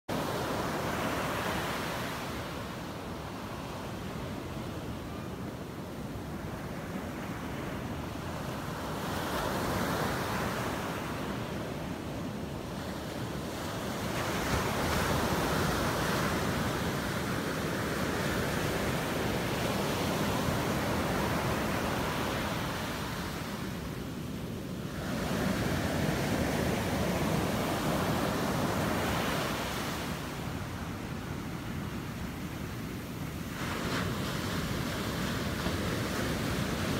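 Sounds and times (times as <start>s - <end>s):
ocean surf breaking on beach: 0.1s - 36.9s.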